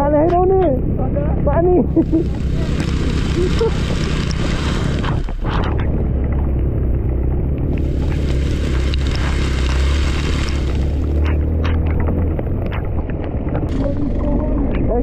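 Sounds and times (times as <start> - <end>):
wind noise on microphone: 0.0 - 15.0
scooter engine running: 0.4 - 15.0.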